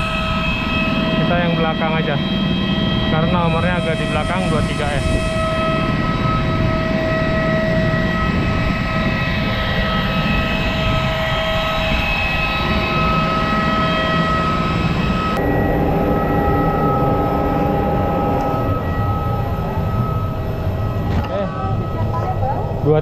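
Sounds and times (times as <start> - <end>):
jet aircraft whine: 0.0 - 23.0
low engine rumble: 0.0 - 23.0.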